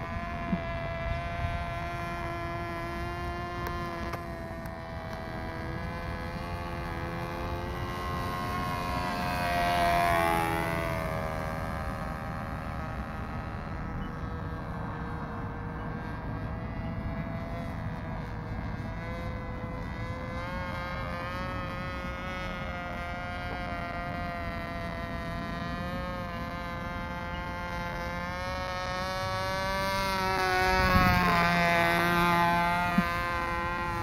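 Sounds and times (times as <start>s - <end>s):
model plane engine buzzing: 0.0s - 34.0s.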